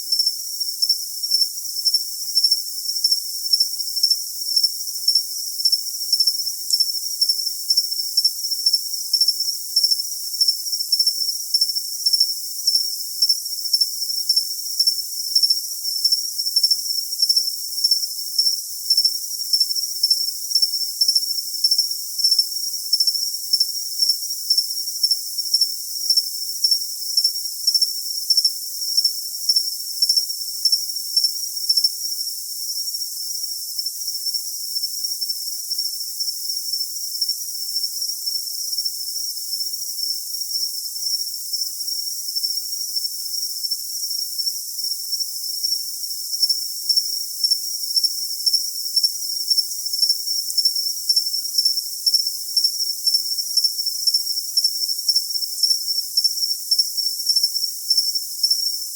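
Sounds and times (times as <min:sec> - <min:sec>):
pulsing cricket chirp: 0:00.0 - 0:58.9
crickets trilling: 0:00.1 - 0:58.8.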